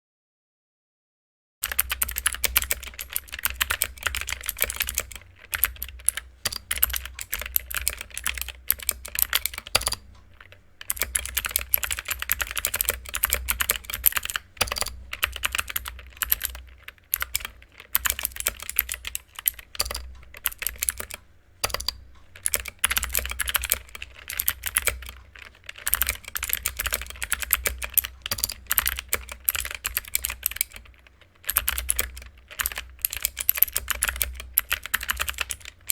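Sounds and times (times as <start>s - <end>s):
mechanical keyboard typing: 1.6s - 35.9s.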